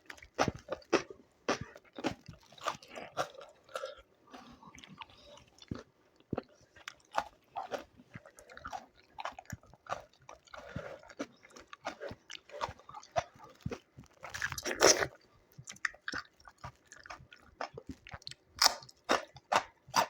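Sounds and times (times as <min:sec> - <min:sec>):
person eating and chewing: 0:00.0 - 0:20.0.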